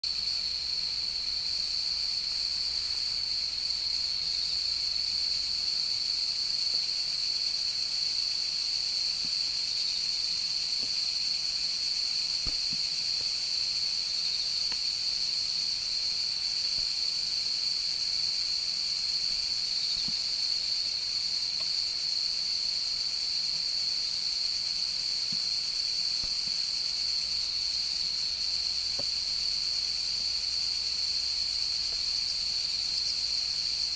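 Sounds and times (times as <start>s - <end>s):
night insects trilling: 0.0s - 33.9s.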